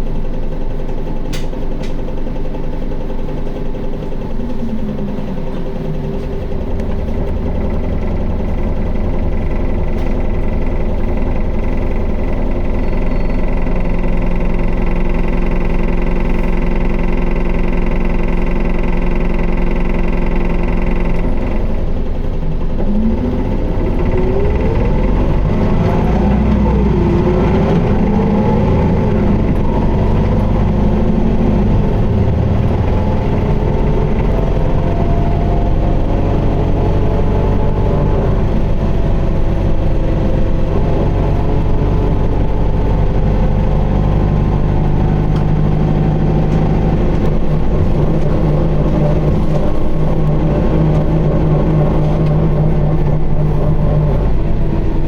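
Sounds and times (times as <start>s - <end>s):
bus diesel engine whining: 0.0s - 55.0s.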